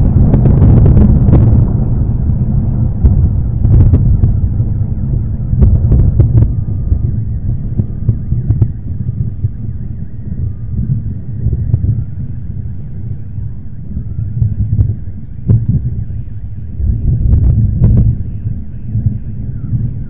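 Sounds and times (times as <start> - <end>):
rolling thunder: 0.0 - 20.0.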